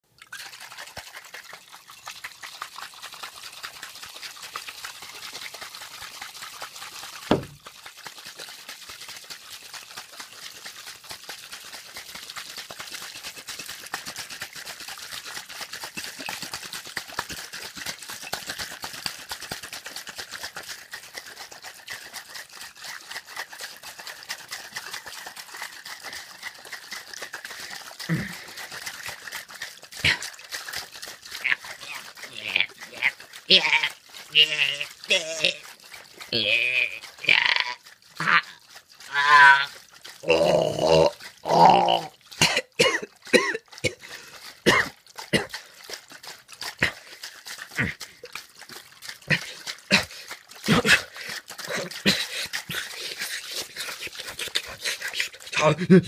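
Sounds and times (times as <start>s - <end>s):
container being shaken: 0.0s - 56.0s.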